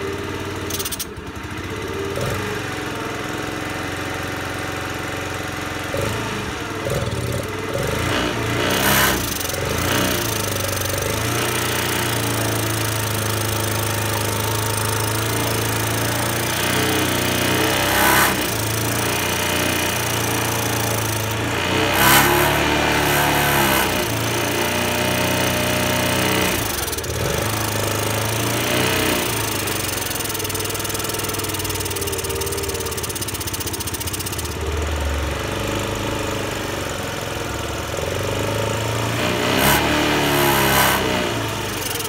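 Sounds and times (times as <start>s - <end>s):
scooter engine revving: 0.0s - 42.0s.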